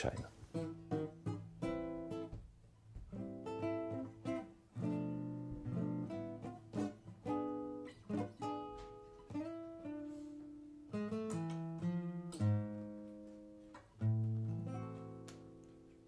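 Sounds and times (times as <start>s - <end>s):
acoustic guitar strumming and plucking: 0.0s - 16.0s.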